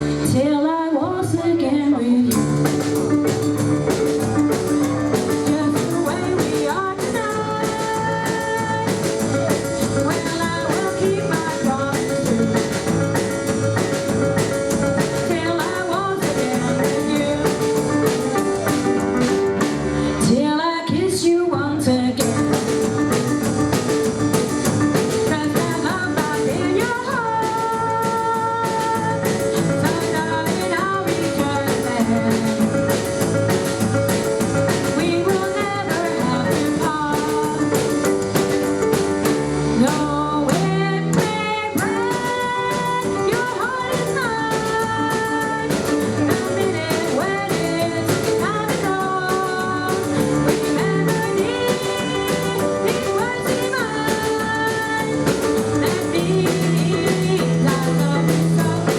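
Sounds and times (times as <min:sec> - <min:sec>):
double bass: 0:00.0 - 0:00.5, 0:01.3 - 0:20.5, 0:21.8 - 0:58.9
drums: 0:00.0 - 0:58.9
keyboard: 0:00.0 - 0:58.9.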